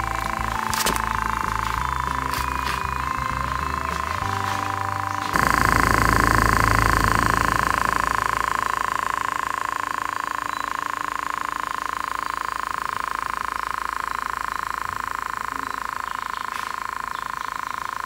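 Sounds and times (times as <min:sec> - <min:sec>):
small motor propeller buzzing: 0:00.0 - 0:18.0.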